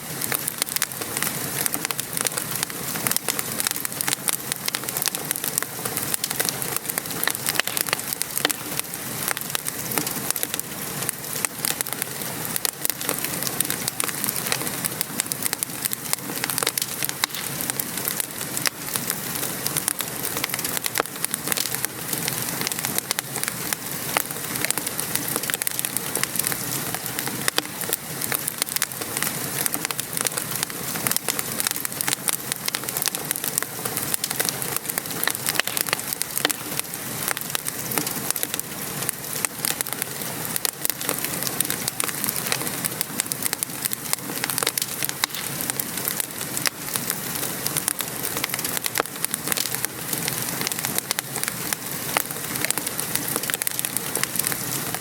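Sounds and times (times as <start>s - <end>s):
rain pattering: 0.0s - 55.0s
wood fire crackling: 0.0s - 55.0s.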